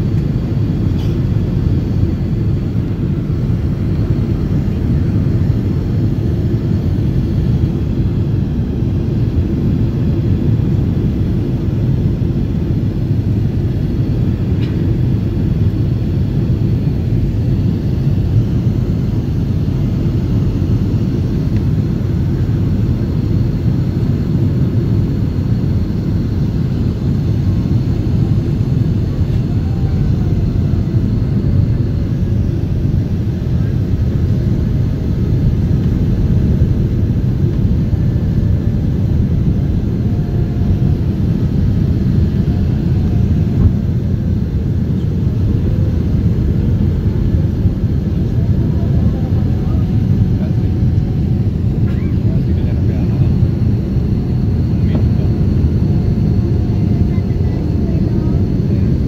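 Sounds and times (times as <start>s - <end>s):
jet cabin engine roar: 0.0s - 59.0s.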